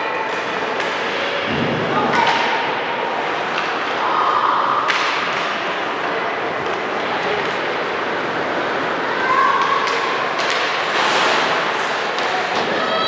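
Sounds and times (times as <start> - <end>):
voices echoing in gym: 0.0 - 13.0.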